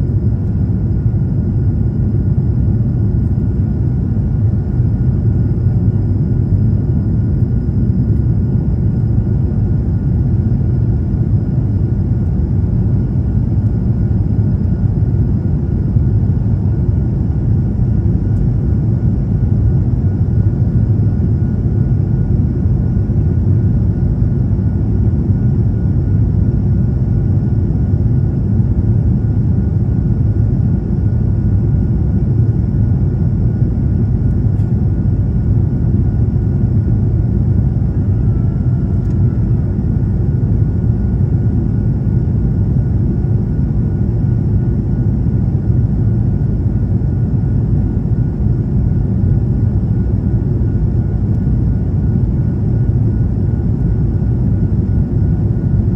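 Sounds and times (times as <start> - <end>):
airplane cabin engine roar: 0.0 - 55.9.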